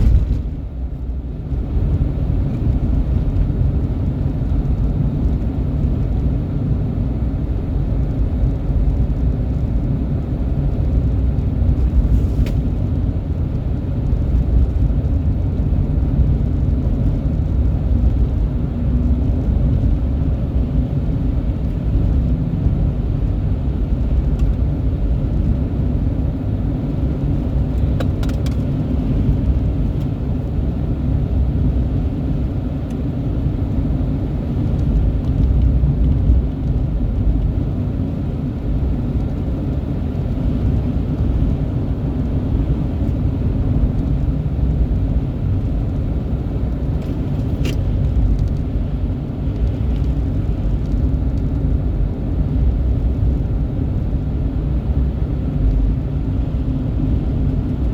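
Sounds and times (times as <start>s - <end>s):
vehicle engine rumble: 0.0s - 57.9s.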